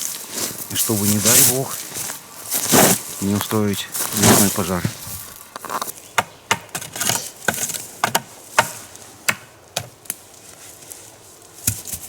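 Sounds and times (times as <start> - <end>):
dry sticks cracking and snapping: 0.0 - 10.4.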